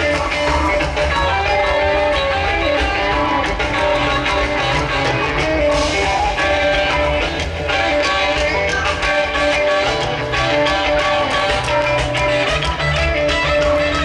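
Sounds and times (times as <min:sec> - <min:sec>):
electric guitar: 0:00.0 - 0:14.0
live rock band: 0:00.0 - 0:14.0.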